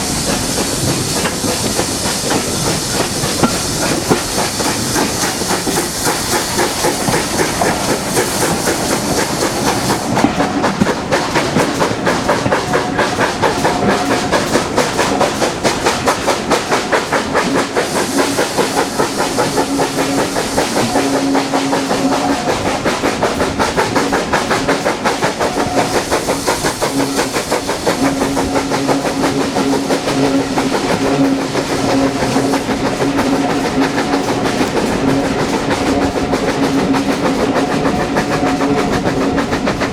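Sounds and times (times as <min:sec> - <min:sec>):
steam hissing: 0:00.0 - 0:39.9
steam train running: 0:00.0 - 0:39.9.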